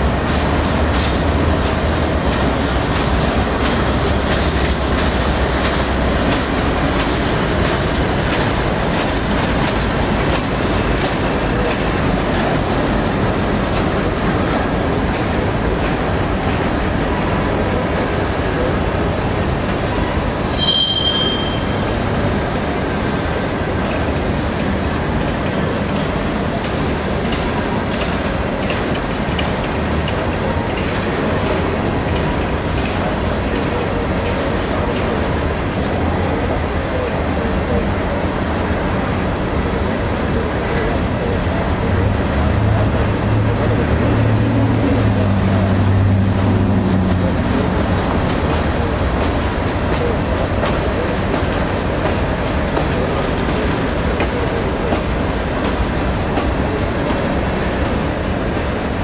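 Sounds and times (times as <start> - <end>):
train wheels rolling on rail: 0.0 - 59.0.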